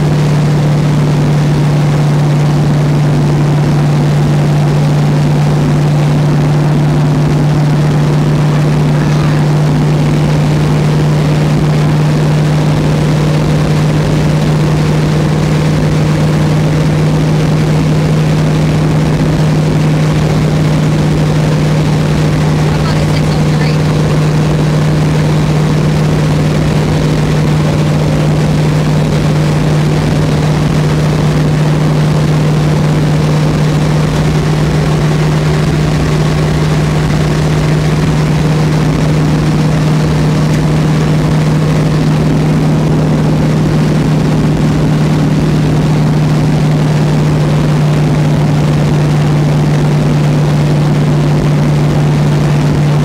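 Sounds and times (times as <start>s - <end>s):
road and wind noise: 0.0s - 53.0s
truck engine drone: 0.0s - 53.0s.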